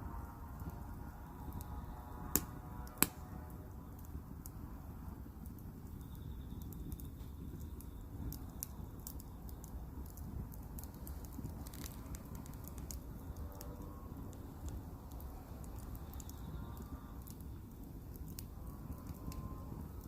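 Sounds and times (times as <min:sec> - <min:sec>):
low steady rumble: 0:00.0 - 0:20.0
wood fire crackling: 0:00.0 - 0:20.0
fire pops and snaps: 0:00.2 - 0:20.0.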